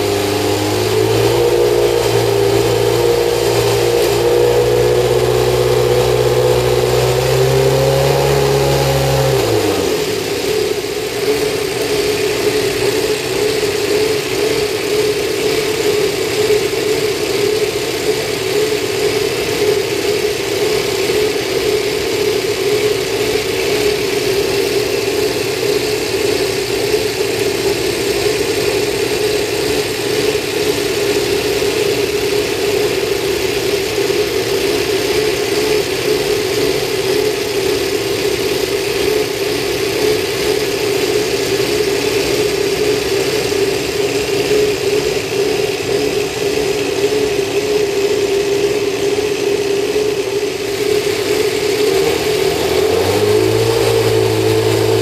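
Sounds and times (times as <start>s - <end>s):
racing engine idling: 0.0s - 55.0s.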